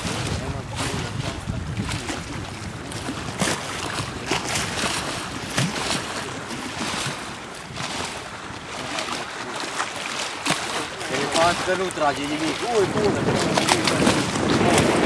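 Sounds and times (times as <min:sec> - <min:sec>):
wind on microphone: 0:00.0 - 0:09.4, 0:10.1 - 0:15.0
water slapping against bank: 0:00.0 - 0:15.0.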